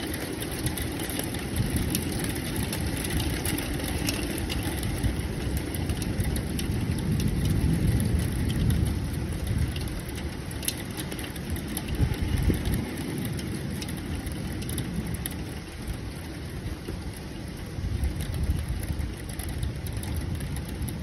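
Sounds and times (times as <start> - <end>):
faint rain ticks: 0.0 - 21.0
rolling thunder rumble: 0.0 - 21.0.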